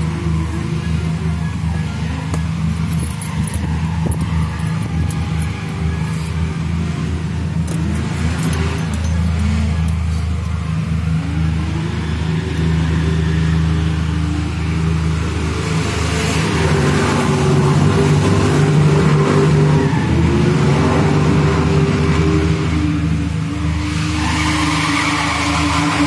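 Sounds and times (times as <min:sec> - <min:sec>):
car engines idling: 0:00.0 - 0:26.0
engine revving: 0:00.0 - 0:26.0.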